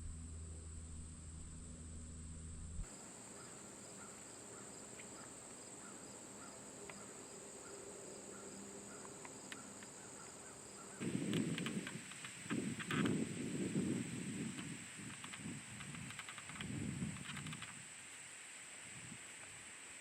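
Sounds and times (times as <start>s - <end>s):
crickets chirping: 0.1s - 20.0s.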